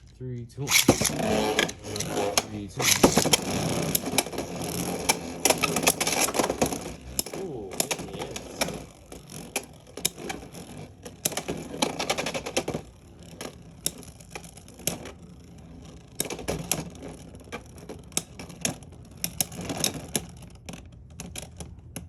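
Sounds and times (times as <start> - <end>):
spinning tops clacking: 0.7 - 21.5
spinning rattle: 0.7 - 22.0.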